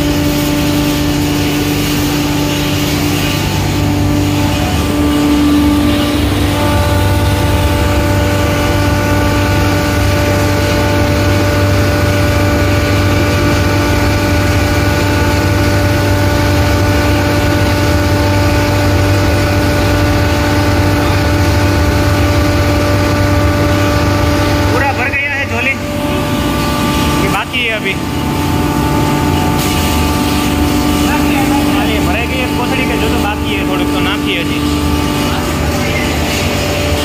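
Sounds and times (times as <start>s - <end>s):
hammer mill grinding: 0.0s - 37.0s.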